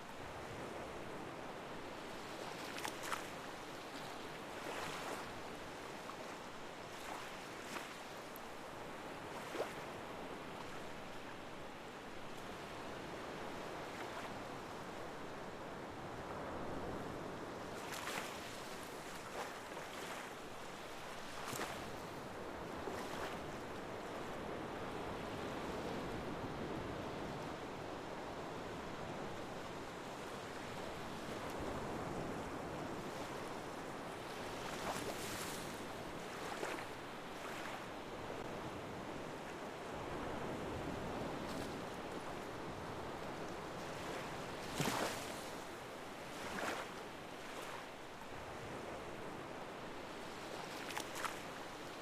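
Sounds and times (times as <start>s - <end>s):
ocean waves on a shore: 0.0s - 52.0s.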